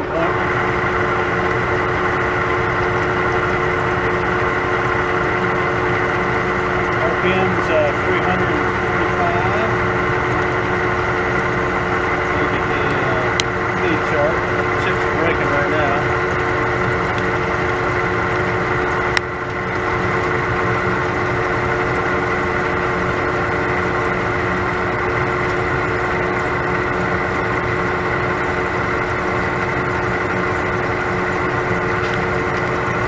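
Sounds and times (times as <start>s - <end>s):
metal lathe humming and whining: 0.0s - 33.0s.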